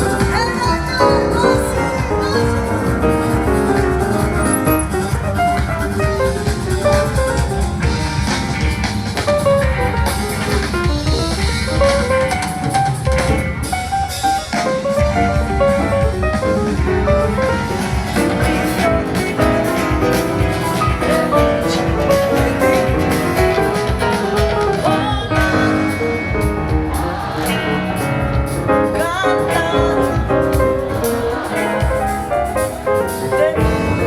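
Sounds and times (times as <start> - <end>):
music with drums and guitar: 0.0 - 34.0.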